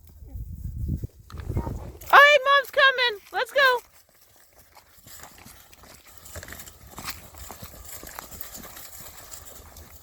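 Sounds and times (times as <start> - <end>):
footsteps crunching on snow: 0.0 - 10.0.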